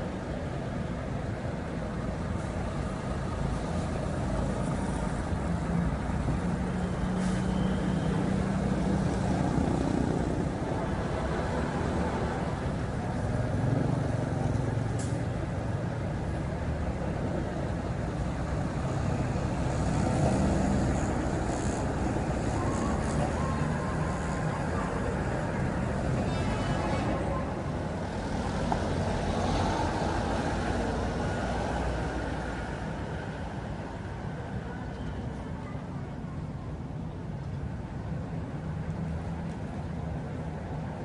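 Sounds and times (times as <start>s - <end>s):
diesel bus engines rumbling past: 0.0s - 41.0s
traffic noise: 0.0s - 41.0s.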